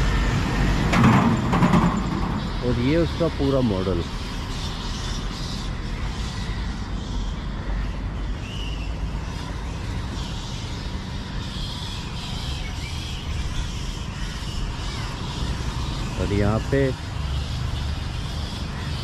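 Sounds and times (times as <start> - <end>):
city street rumble: 0.0 - 19.0.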